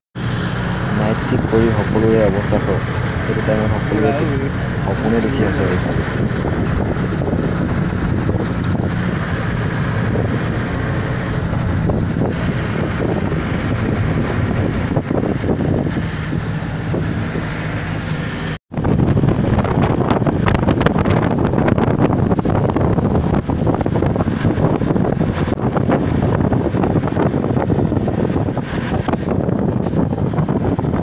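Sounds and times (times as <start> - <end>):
bus engine and road noise: 0.2 - 31.0
wind buffeting microphone: 0.2 - 31.0.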